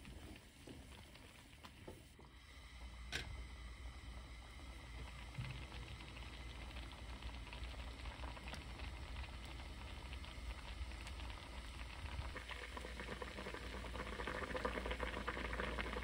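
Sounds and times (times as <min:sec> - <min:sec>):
stew bubbling in a pot: 0:00.0 - 0:16.0.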